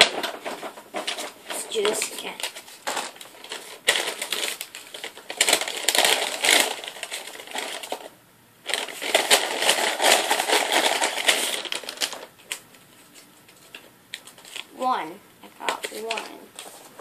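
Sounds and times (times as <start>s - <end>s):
paper bag rustling and crinkling: 0.0s - 14.8s.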